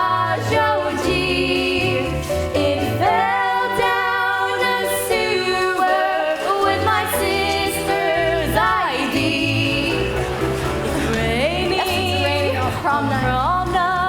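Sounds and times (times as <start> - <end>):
band accompaniment: 0.0 - 14.0
woman singing a slow song: 0.0 - 14.0.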